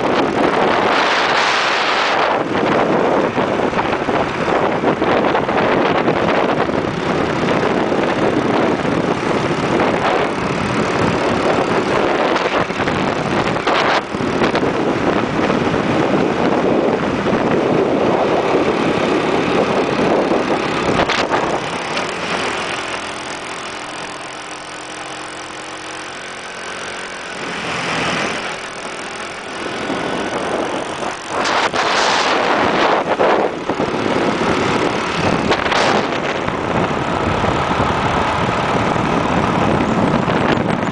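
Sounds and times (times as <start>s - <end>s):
motorbike engine running: 0.0s - 40.9s
wind rushing over microphone: 0.0s - 40.9s.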